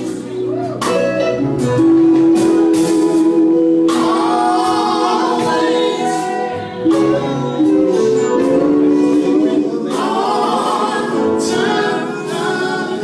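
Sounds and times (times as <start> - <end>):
gospel vocal group singing: 2.0 - 13.0.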